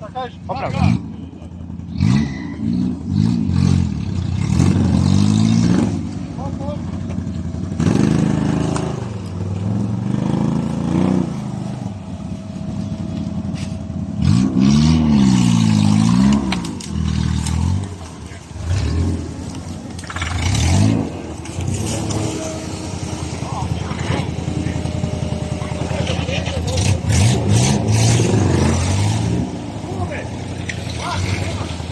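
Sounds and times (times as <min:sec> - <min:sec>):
off-road engine revving: 0:00.0 - 0:31.9.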